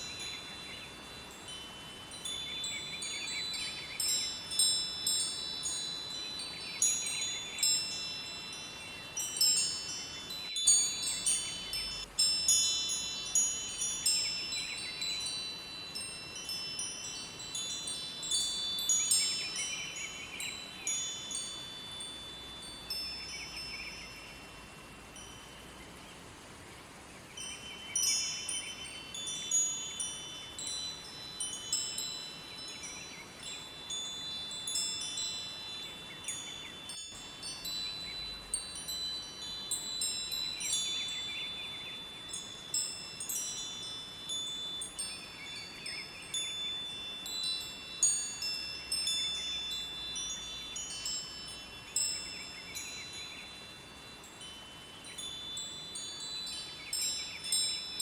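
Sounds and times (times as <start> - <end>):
wind chimes ringing: 0.0 - 26.0, 27.3 - 58.0
faint river rushing: 0.0 - 58.0.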